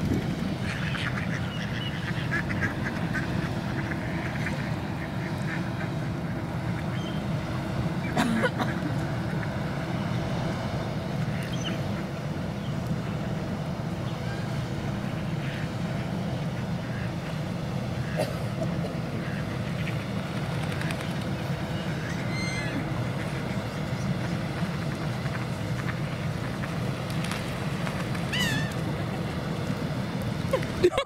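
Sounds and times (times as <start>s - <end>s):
ducks quacking: 0.5s - 10.1s, 13.0s - 31.0s.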